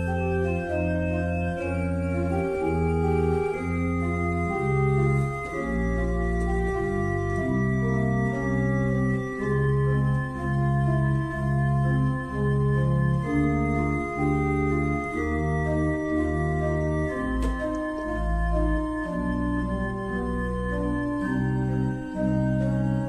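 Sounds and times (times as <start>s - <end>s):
organ playing slow chords: 0.0s - 23.0s.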